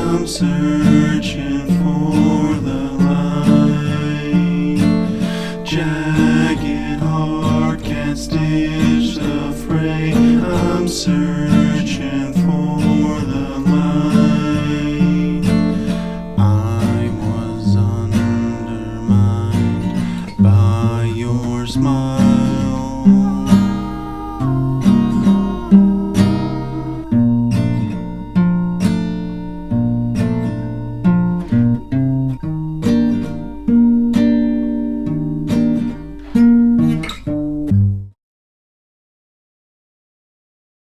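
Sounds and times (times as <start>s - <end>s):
acoustic guitar plucked notes: 0.0s - 38.2s.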